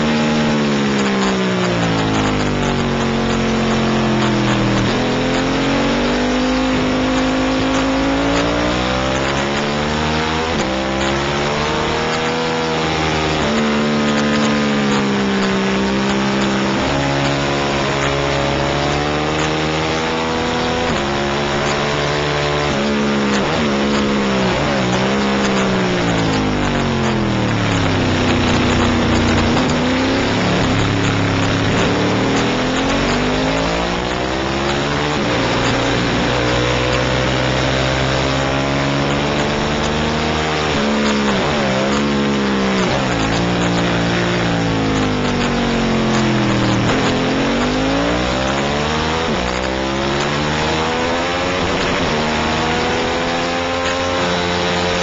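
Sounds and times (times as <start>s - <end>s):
racing motorcycle engine revving: 0.0s - 55.0s.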